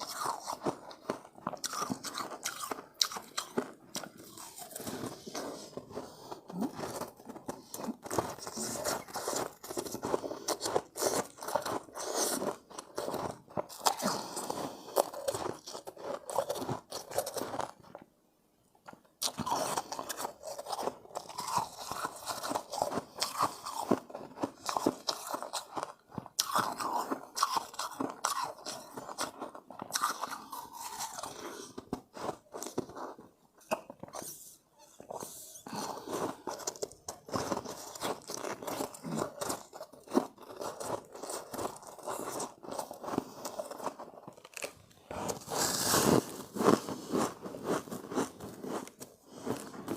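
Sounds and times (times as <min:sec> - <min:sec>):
crunching and chewing ice: 0:00.0 - 0:49.9.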